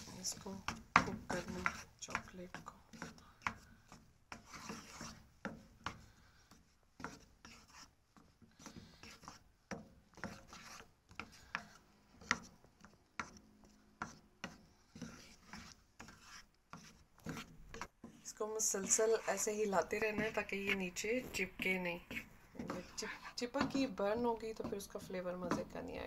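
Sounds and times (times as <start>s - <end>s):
wooden spatula scraping pan: 0.0s - 26.0s.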